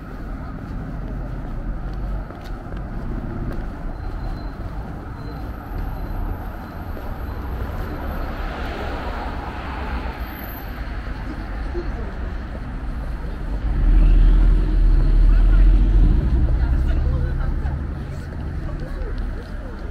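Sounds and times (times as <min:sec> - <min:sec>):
cars passing: 0:00.0 - 0:19.9.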